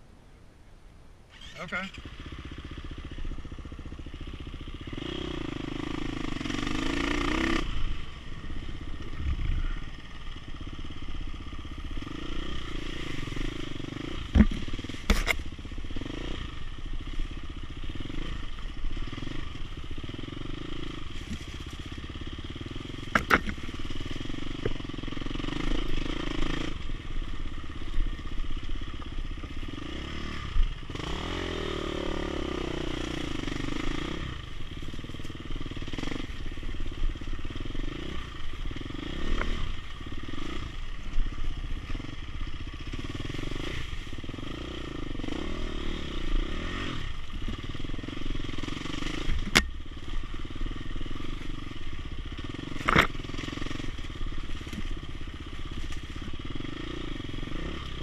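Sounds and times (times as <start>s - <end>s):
dirt bike engine revving: 1.3s - 58.0s.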